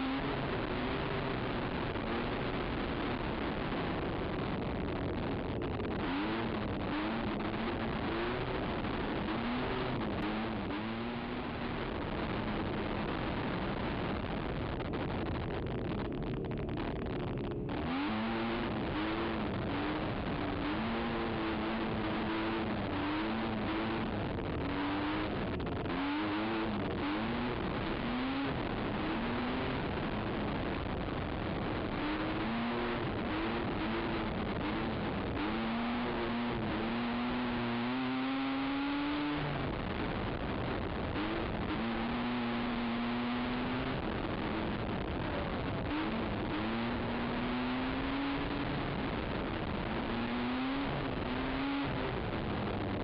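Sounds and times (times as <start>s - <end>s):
atv engine revving: 0.0s - 14.6s, 17.3s - 53.0s.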